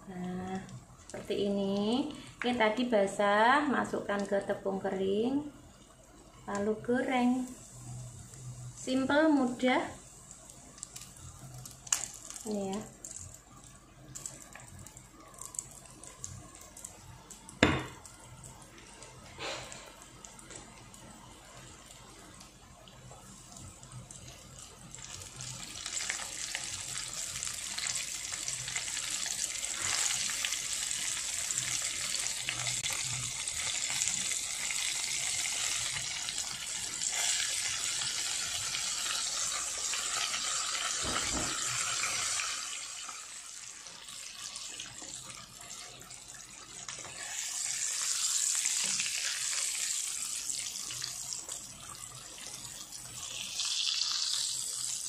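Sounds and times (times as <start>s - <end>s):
chicken deep-frying in oil: 0.0s - 55.0s.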